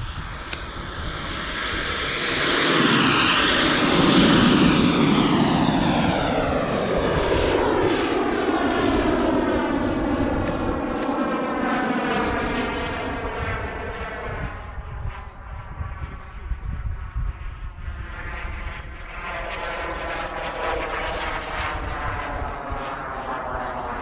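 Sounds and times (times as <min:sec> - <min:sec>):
model jet flying past: 0:00.0 - 0:24.0.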